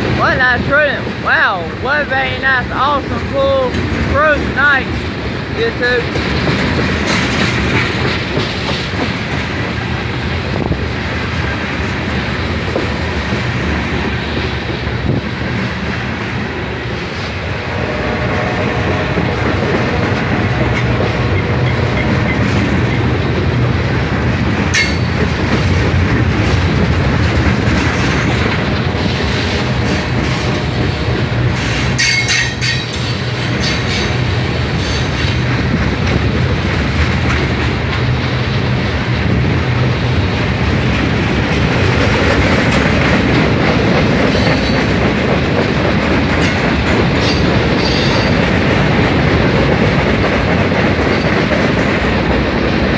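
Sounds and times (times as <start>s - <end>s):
train wheels clickety-clack: 4.8s - 52.9s.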